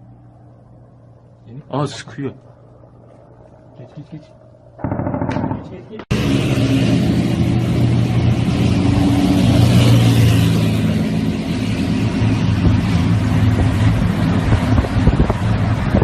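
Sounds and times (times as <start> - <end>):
helicopter flying overhead: 2.4 - 16.0.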